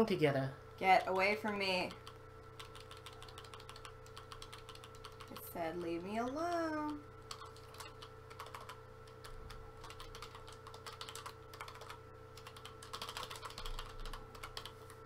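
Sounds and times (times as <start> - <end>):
faint steady hum: 0.0 - 15.0
computer keyboard typing: 0.9 - 15.0.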